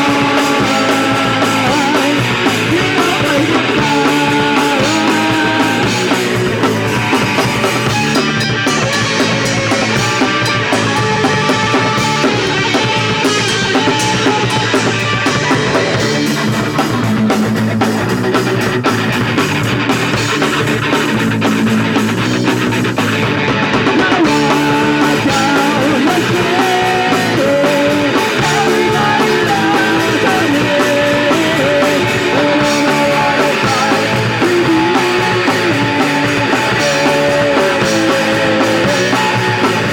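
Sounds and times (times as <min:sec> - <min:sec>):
distorted electric guitar: 0:00.0 - 0:39.9
drum kit: 0:00.0 - 0:39.9.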